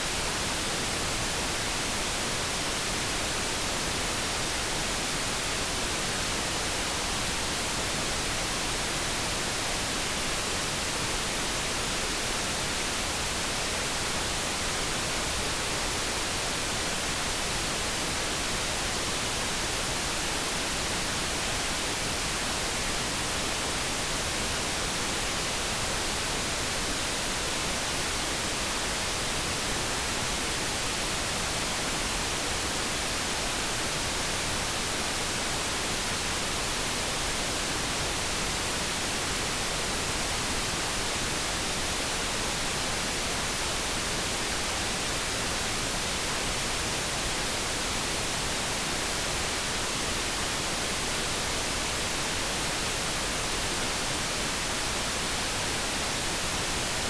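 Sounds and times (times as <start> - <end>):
synthesized brown noise hiss: 0.0 - 57.0.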